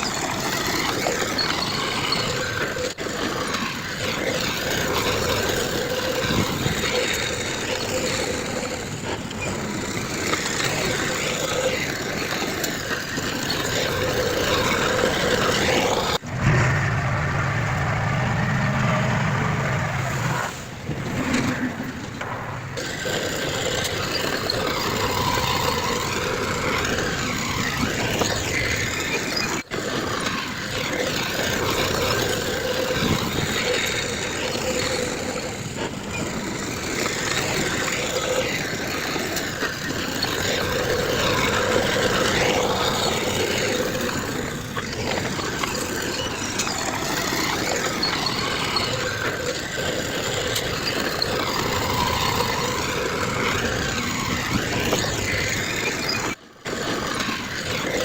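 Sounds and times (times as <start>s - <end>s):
heavy machinery diesel engines running: 0.0s - 58.0s.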